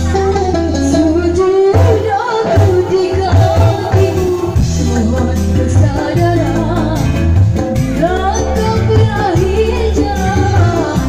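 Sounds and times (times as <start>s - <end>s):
hand drums: 0.0s - 11.0s
keyboard: 0.0s - 11.0s
woman singing: 0.0s - 11.0s.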